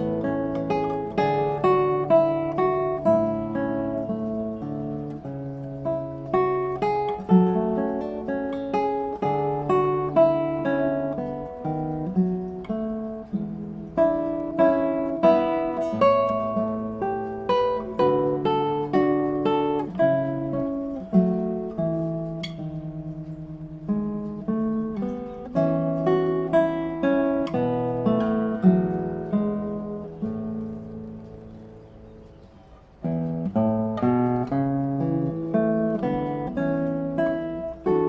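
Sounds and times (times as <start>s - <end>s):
acoustic guitar plucking: 0.0s - 38.0s.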